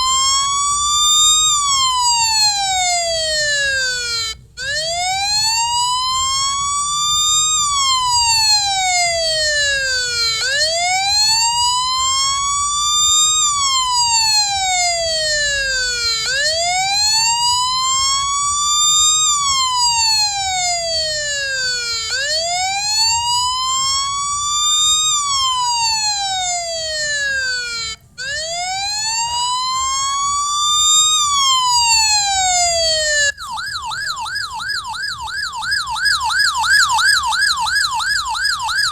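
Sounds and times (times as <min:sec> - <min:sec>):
police siren wailing: 0:00.0 - 0:38.9
siren fast yelp: 0:00.0 - 0:38.9.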